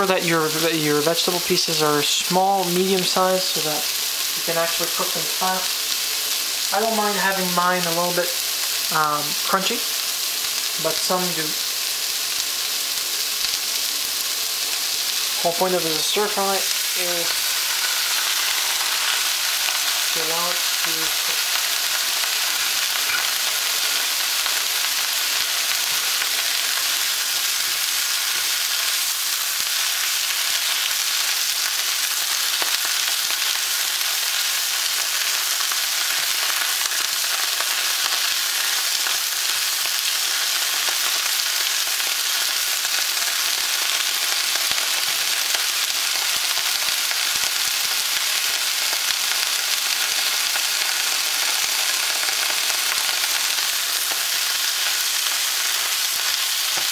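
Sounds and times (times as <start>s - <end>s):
vegetables sizzling in hot oil: 0.0s - 56.9s.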